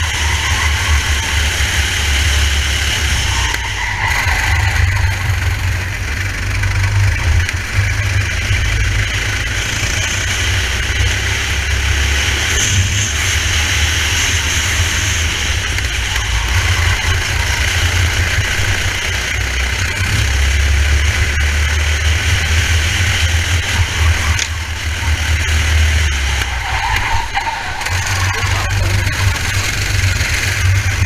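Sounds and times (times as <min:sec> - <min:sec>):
kart engine running: 0:00.0 - 0:31.0.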